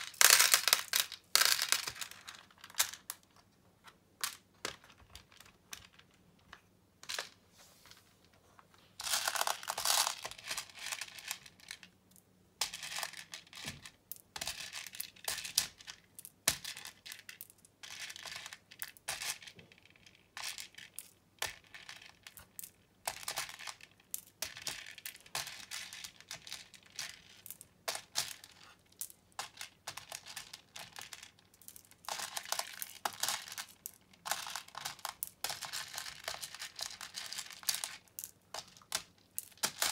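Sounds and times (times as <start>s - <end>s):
plastic beads clattering: 0.0s - 3.3s, 9.0s - 12.0s, 12.6s - 39.9s.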